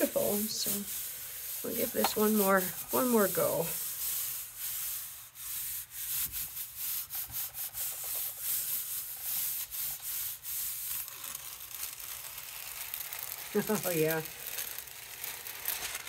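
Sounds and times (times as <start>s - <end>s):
palms rubbing tissue paper: 0.0s - 16.0s.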